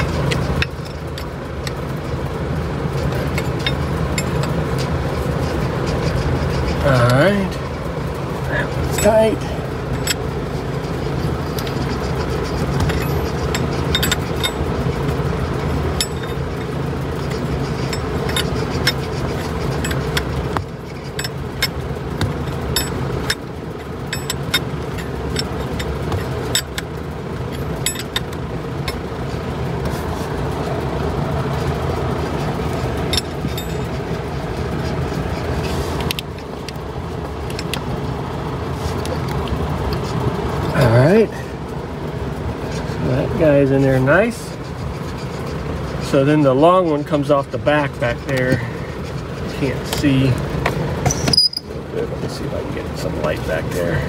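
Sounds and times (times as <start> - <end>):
low mechanical hum: 0.0 - 54.0
light clicks and knocks of hoses: 2.9 - 41.8, 42.5 - 54.0.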